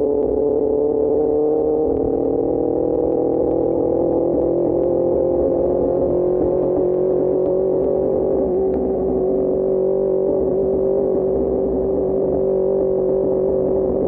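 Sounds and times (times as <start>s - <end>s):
motorcycle engine droning steadily: 0.0s - 14.0s.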